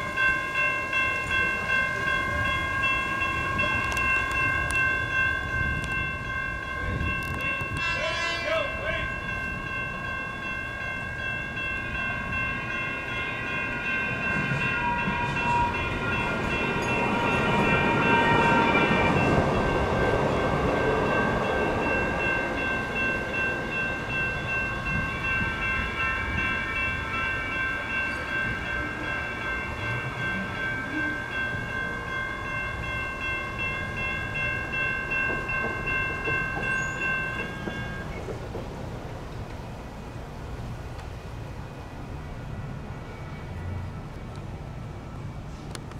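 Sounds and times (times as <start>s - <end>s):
railroad crossing bells ringing: 0.0s - 45.6s
light rail train rumble: 0.0s - 45.9s.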